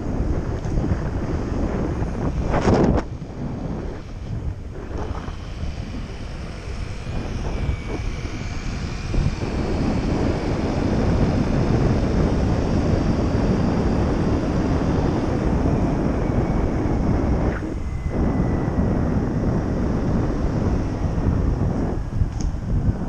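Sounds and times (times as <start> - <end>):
road traffic: 0.0 - 23.0
wind buffeting microphone: 0.0 - 23.0.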